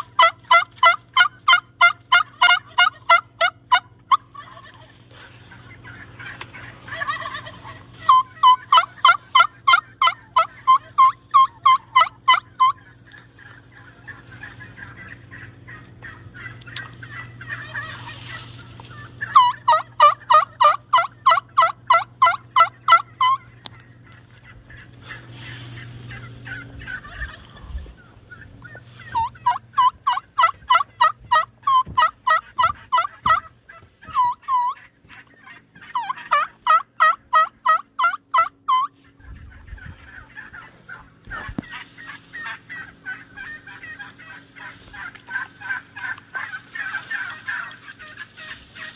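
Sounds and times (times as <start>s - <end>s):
soft turkey chatter: 0.0s - 48.9s
turkey yelping: 0.0s - 48.9s.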